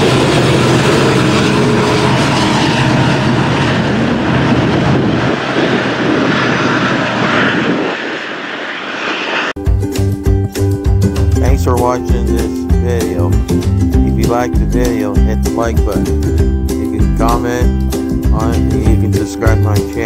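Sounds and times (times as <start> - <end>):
diesel locomotive engine drone: 0.0 - 19.9.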